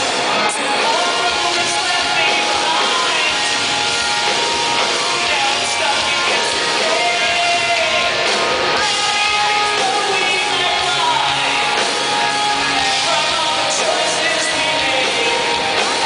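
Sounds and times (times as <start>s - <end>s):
live band with singer: 0.0s - 16.0s.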